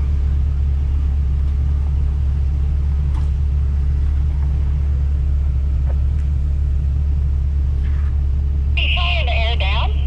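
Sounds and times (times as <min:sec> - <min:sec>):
off-road vehicle engine rumble: 0:00.0 - 0:10.0.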